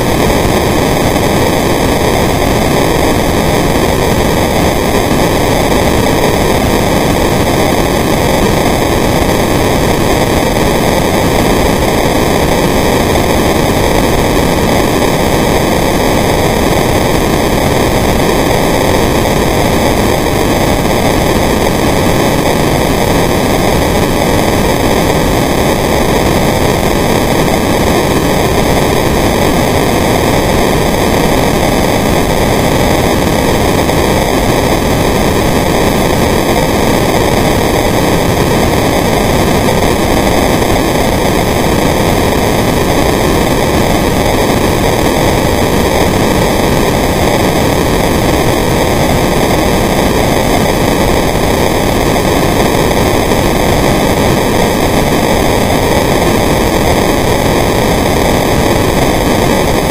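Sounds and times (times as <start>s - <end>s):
loud steady hiss: 0.0s - 59.9s.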